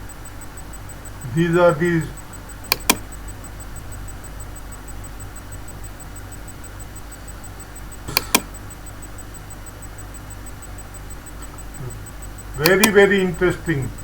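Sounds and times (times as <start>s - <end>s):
faint high ticking: 0.0s - 14.0s
low background hum and rumble: 0.0s - 14.0s
sharp clicks: 0.0s - 14.0s.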